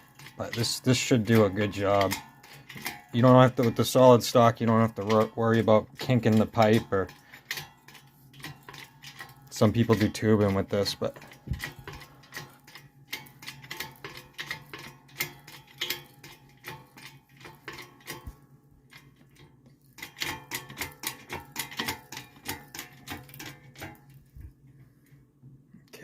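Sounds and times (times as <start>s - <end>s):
pipe bender clicking: 0.0s - 24.2s.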